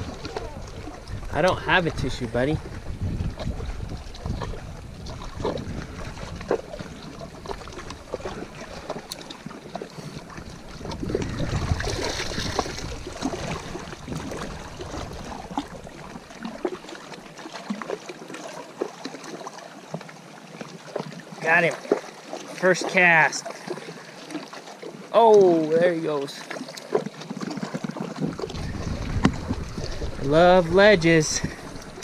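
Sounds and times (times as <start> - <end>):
small waves lapping on rocks: 0.0 - 32.0.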